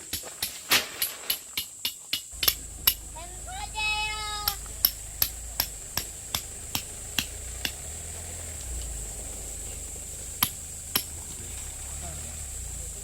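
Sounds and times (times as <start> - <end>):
steady high-pitched hiss: 0.0 - 13.0
hammer blows: 0.1 - 8.9, 10.1 - 11.9.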